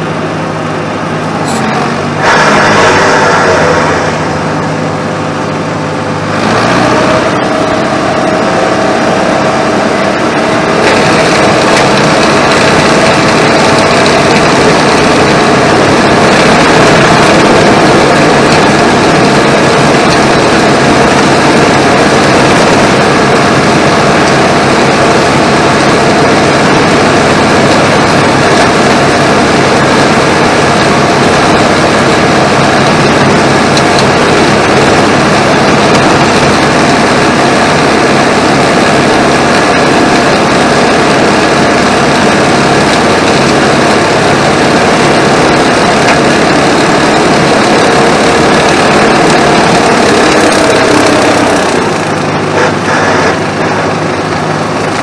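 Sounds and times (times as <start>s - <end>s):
boom mower cutting grass: 0.0s - 55.0s
tractor engine running hard: 0.0s - 55.0s.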